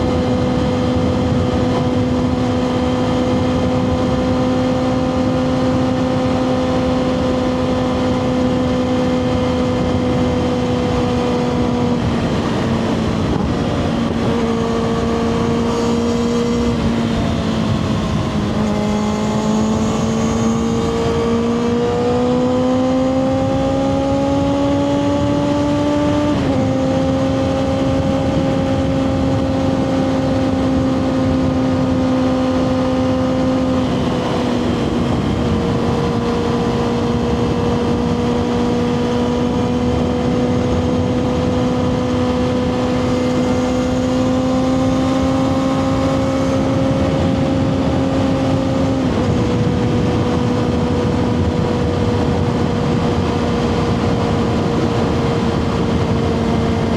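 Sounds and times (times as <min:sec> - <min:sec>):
motorcycle engine riding: 0:00.0 - 0:56.9
wind rush: 0:00.0 - 0:56.9.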